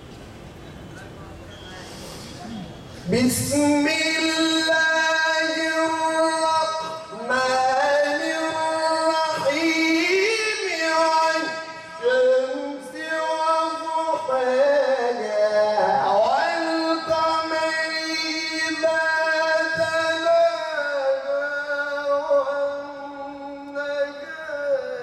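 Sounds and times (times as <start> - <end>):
man chanting melodically: 3.0 - 25.0.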